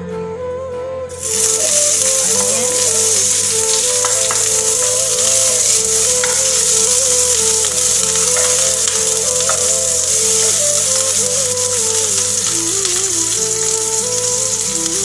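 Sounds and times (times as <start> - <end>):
background music: 0.0 - 15.0
onions frying in oil: 1.1 - 15.0.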